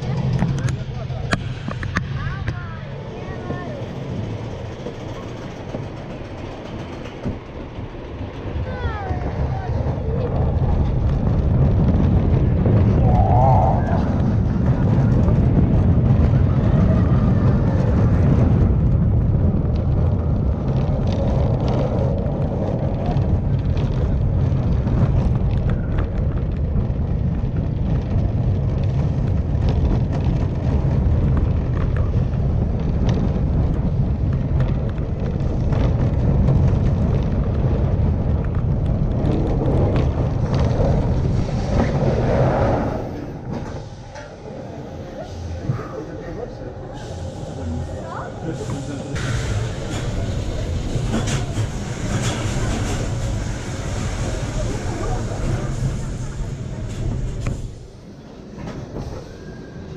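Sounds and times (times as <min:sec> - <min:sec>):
roller coaster wheels rumbling: 0:00.0 - 0:59.9
wind rush: 0:00.0 - 0:59.9.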